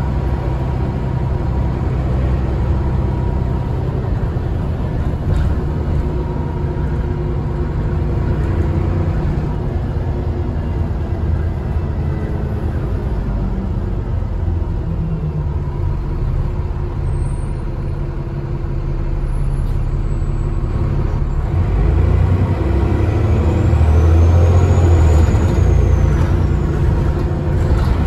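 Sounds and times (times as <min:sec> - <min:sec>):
bus diesel engine rumbling: 0:00.0 - 0:28.0.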